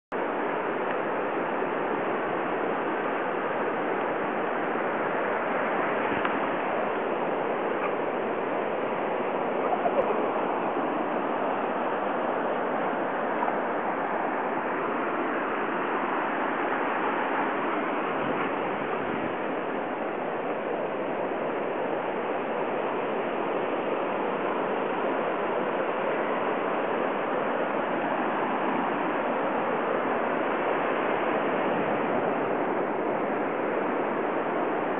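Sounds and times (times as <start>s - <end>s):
ocean waves breaking: 0.2s - 34.9s.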